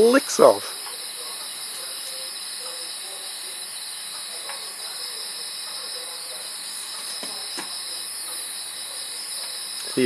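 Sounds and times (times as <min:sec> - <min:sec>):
insects high-pitched shrill: 0:00.0 - 0:10.0
insects pulsing chirp: 0:00.0 - 0:10.0.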